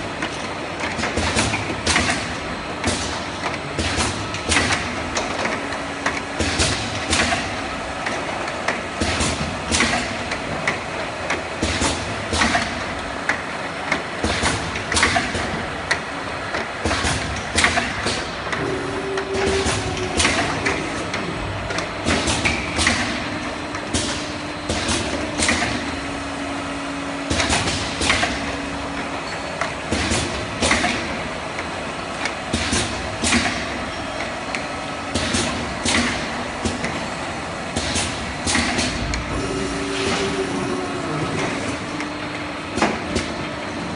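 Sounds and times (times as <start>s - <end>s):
filling machine running: 0.0s - 43.9s.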